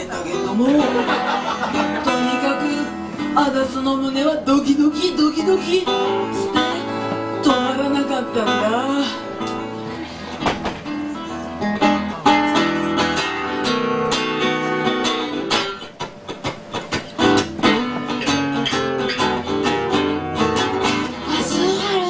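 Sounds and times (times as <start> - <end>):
acoustic guitar strummed and picked: 0.0 - 22.0.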